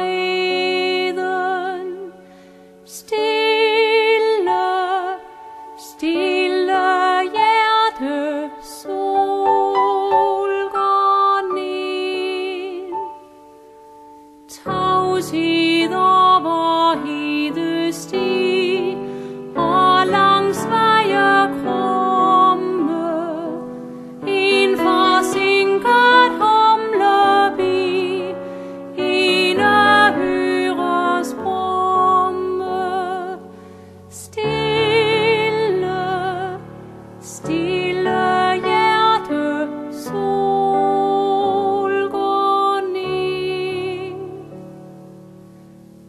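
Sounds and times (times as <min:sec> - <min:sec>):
woman singing with vibrato: 0:00.0 - 0:02.2, 0:02.9 - 0:13.3, 0:14.5 - 0:44.7.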